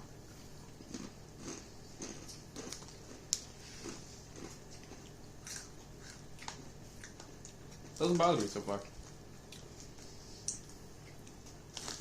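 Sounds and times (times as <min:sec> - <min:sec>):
chewing crunchy chips: 0:00.6 - 0:12.0.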